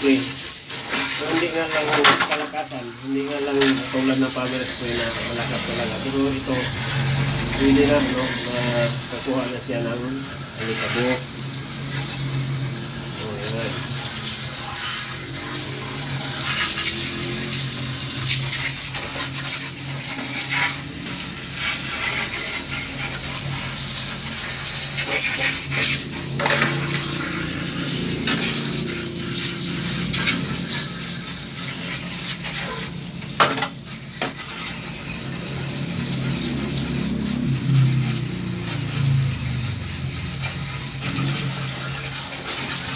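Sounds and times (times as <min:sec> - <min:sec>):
water sprayer hissing: 0:00.0 - 0:42.9.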